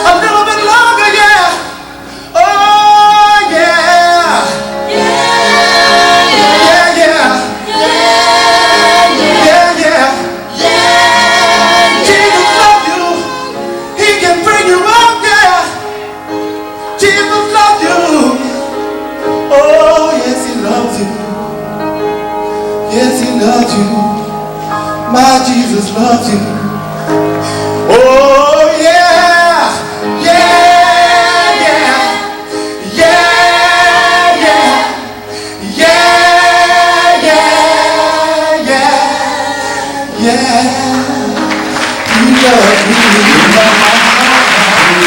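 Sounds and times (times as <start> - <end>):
gospel band music: 0.0 - 45.0.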